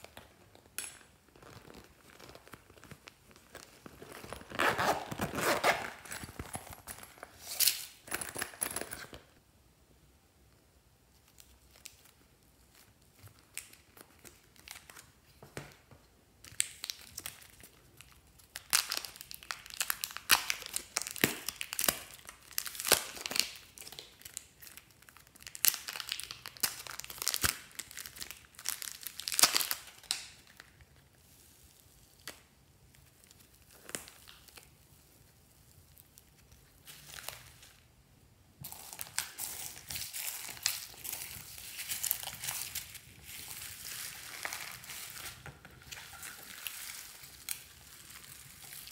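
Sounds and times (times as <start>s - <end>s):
plastic wrapper crinkling and tearing: 0.0s - 8.0s, 11.2s - 15.4s, 16.4s - 37.8s, 38.6s - 48.9s.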